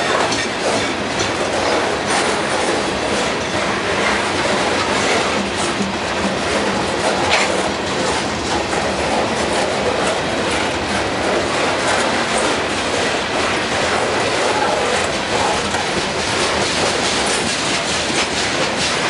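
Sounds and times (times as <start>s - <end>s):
freight train rumbling past: 0.0s - 19.0s
steel wheels clickety-clack: 0.0s - 19.0s.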